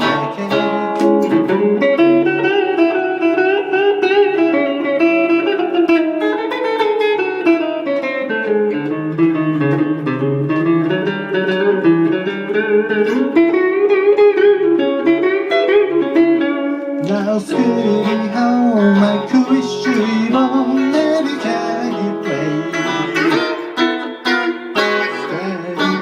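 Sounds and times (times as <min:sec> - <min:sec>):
guitar melody over chords: 0:00.0 - 0:26.0.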